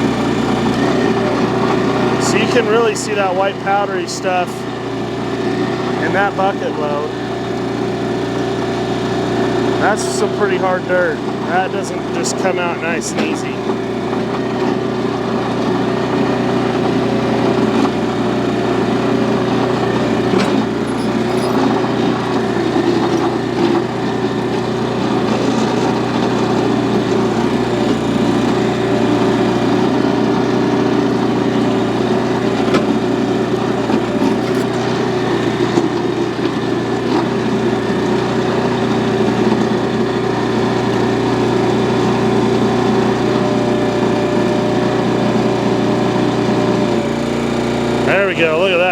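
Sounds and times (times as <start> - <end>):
small gasoline engine running: 0.0 - 48.9.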